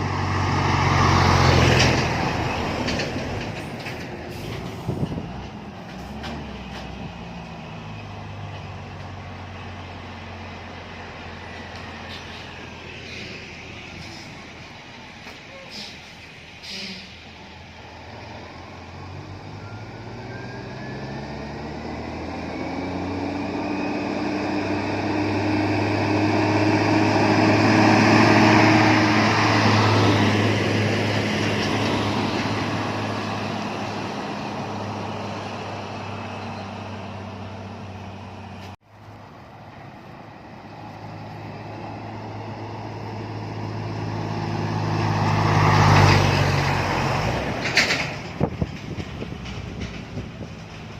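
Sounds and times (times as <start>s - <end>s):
truck diesel engine passing: 0.0s - 50.9s.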